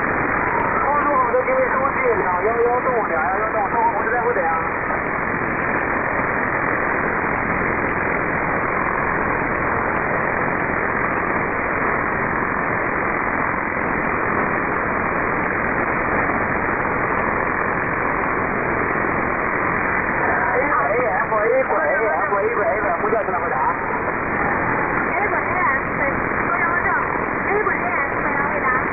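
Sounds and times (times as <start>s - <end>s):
shortwave receiver hiss: 0.0s - 28.9s.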